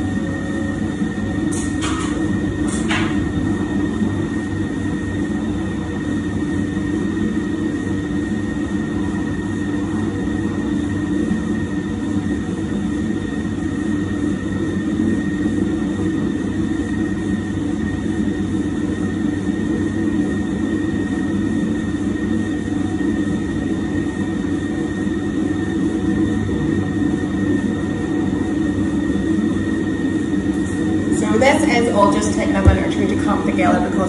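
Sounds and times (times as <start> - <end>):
stand mixer humming with high whine: 0.0 - 34.0.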